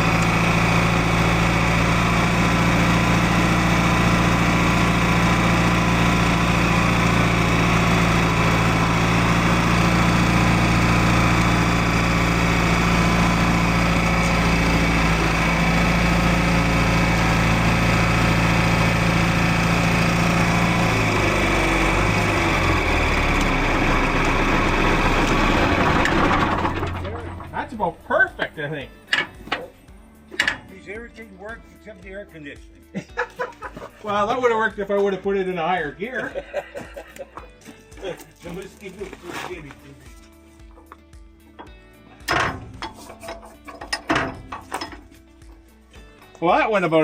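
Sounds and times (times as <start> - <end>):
tractor engine running: 0.0 - 31.0, 37.4 - 47.0.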